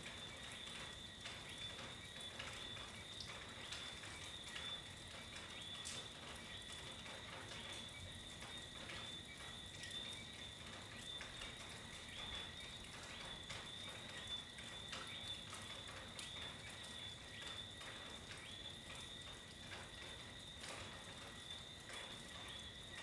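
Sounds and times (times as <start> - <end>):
frogs and insects calling: 0.0 - 23.0.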